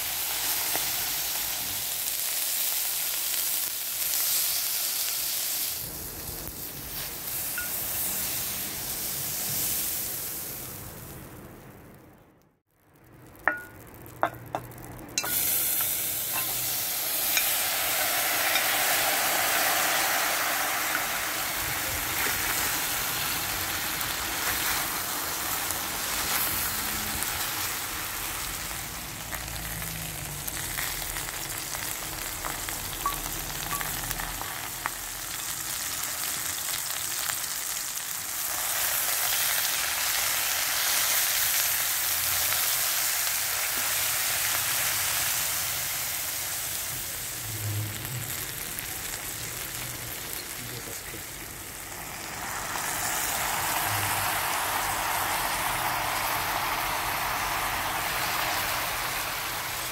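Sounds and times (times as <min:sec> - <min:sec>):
meat sizzling in a pot: 0:00.0 - 0:11.3, 0:13.2 - 0:59.9.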